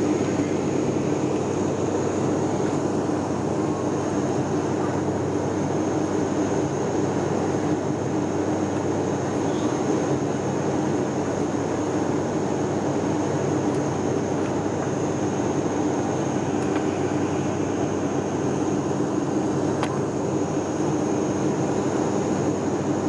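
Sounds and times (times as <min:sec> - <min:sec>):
aircraft engine drone: 0:00.0 - 0:23.0
high whine: 0:00.0 - 0:23.0.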